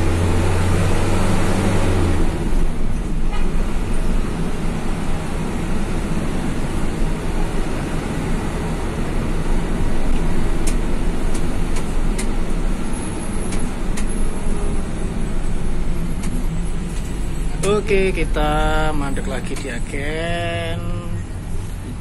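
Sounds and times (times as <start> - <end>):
bus engine hum and road noise: 0.0 - 22.0.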